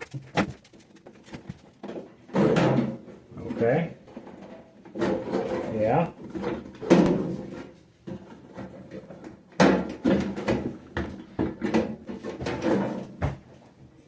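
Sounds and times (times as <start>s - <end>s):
knocks and clatter of microwave parts: 0.0s - 3.3s, 4.0s - 13.6s.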